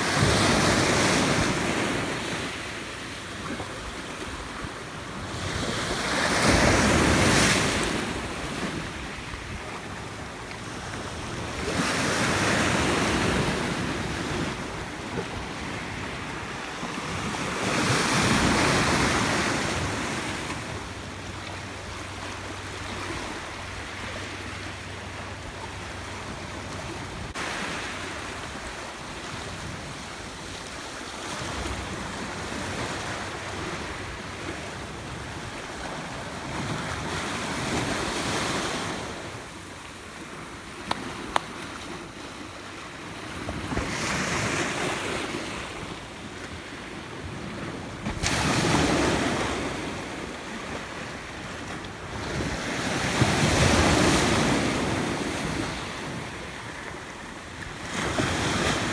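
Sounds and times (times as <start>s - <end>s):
sea waves washing ashore: 0.0s - 58.9s.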